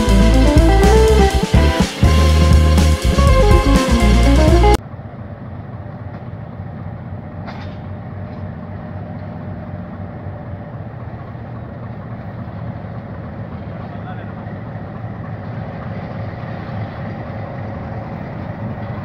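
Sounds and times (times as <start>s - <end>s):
diesel locomotive engine droning: 0.0s - 19.0s.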